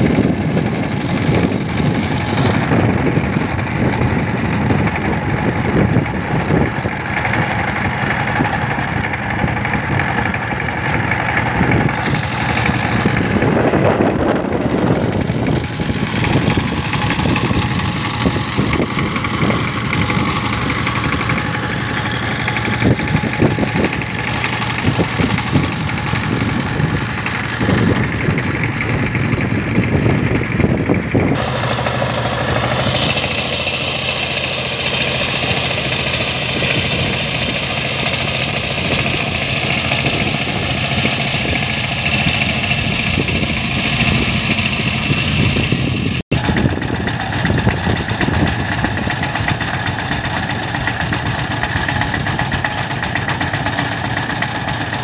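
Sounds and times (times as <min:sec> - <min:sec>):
diesel engine knocking: 0:00.0 - 0:55.0.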